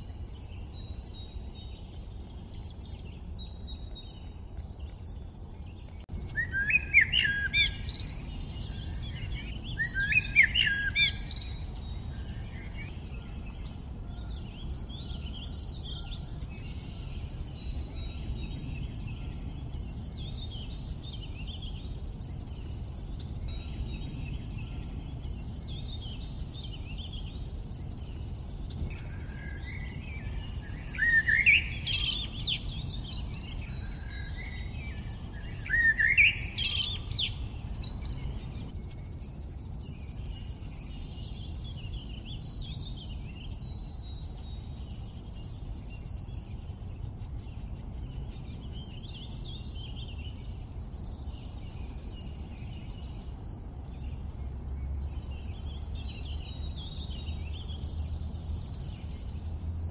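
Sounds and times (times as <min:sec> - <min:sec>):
songbirds singing and chirping: 0:00.0 - 0:59.9
low background rumble: 0:07.3 - 0:59.9.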